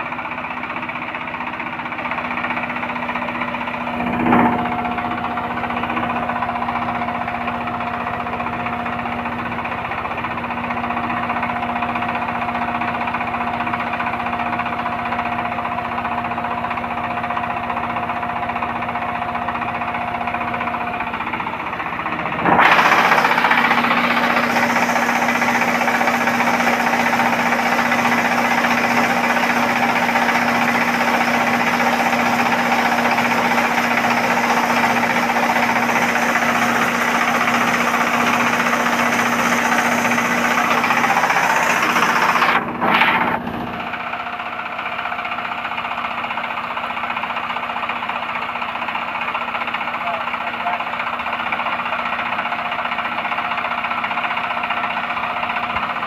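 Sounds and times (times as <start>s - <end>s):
hammer mill grinding corn: 0.0s - 47.2s
diesel engine knock: 0.0s - 56.0s.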